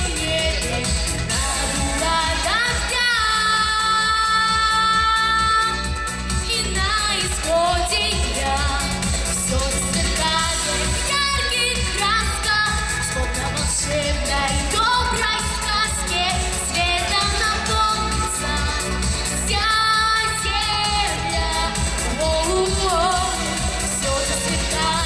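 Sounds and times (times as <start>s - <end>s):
pop backing track with beat: 0.0s - 25.0s
girl singing into microphone: 1.4s - 25.0s.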